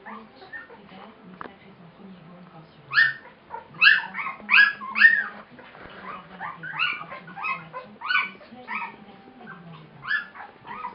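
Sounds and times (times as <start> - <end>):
puppies whimpering and squealing: 0.0 - 1.2, 2.9 - 10.9.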